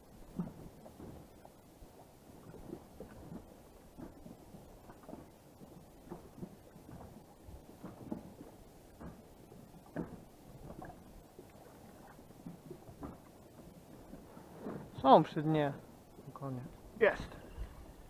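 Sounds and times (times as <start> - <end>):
small waves lapping against hull: 0.0 - 18.0.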